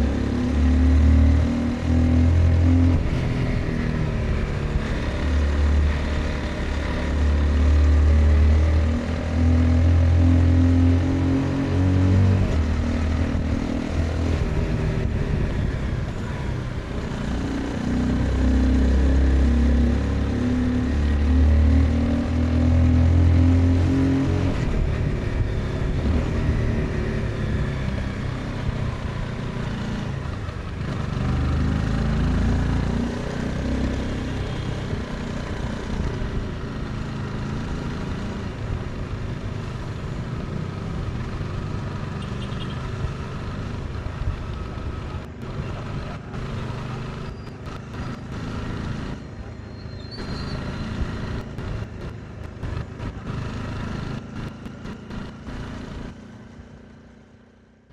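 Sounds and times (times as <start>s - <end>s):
motorcycle engine accelerating: 0.0s - 57.8s.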